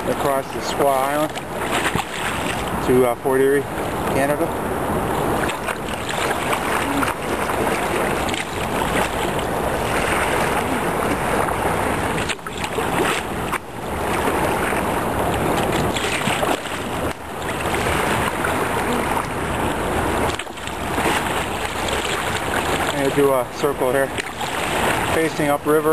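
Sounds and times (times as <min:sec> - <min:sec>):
river water rushing: 0:00.0 - 0:25.9
wind buffeting microphone: 0:00.0 - 0:25.9.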